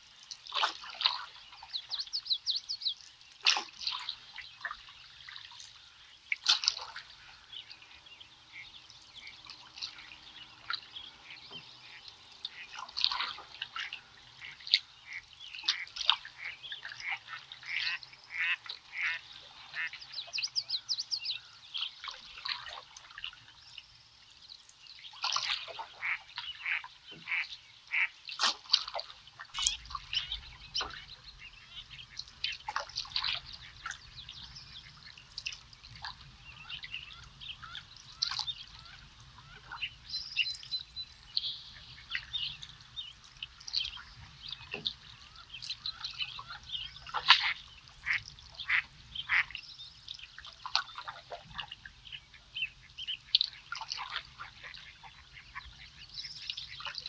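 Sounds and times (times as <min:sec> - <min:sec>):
birds chirping: 0:01.0 - 0:24.0, 0:24.6 - 0:28.5, 0:29.2 - 0:57.0.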